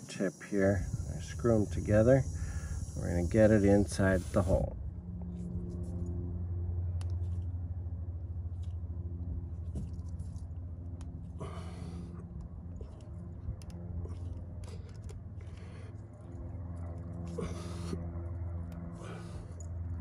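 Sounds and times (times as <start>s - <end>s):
steady low hum: 0.0s - 20.0s
tire probe clicking and scraping: 0.2s - 6.2s, 6.9s - 7.6s, 8.4s - 8.9s, 9.5s - 20.0s.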